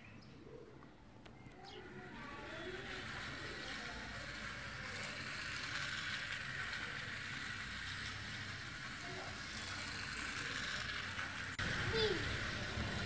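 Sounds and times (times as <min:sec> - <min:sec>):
toy car motors whirring: 0:01.3 - 0:13.0.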